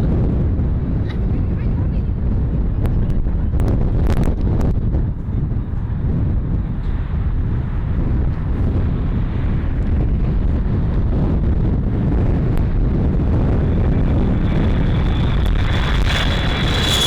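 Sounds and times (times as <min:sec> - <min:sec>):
wind buffeting microphone: 0:00.0 - 0:17.0
jet engines rumbling: 0:00.2 - 0:17.0.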